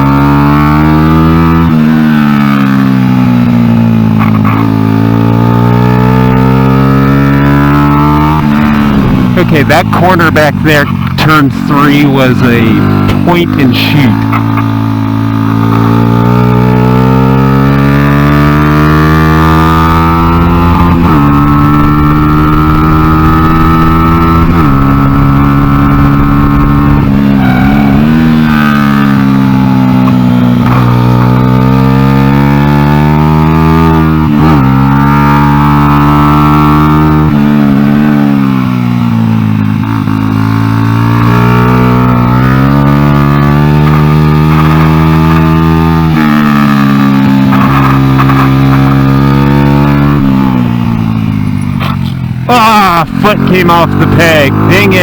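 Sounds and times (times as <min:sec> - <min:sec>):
motorcycle engine revving hard: 0:00.0 - 0:55.0.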